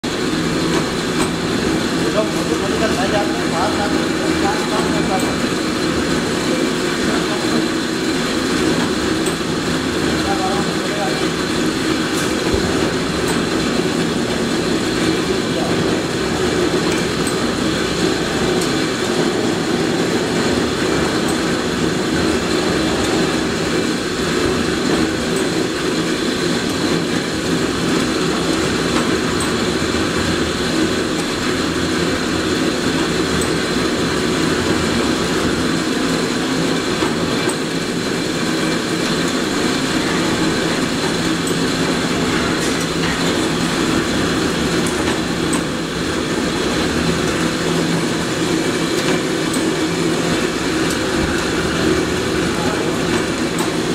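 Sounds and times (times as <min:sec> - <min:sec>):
machine motor humming: 0:00.0 - 0:53.9.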